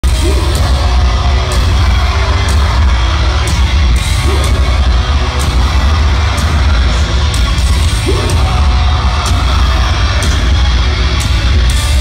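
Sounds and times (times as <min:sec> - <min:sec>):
metalcore band playing live: 0:00.0 - 0:12.0.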